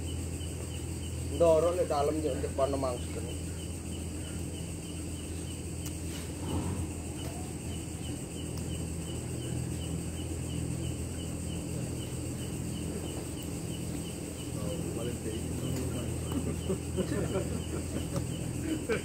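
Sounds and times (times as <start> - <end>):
constant low hum: 0.0 - 19.0
night insects chirping: 0.0 - 19.0.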